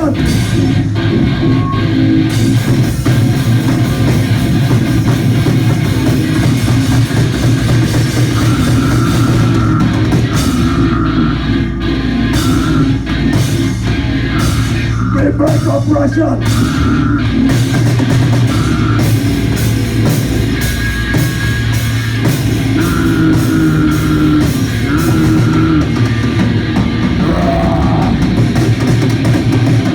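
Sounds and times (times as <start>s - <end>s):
loud hardcore band playing: 0.0s - 29.9s.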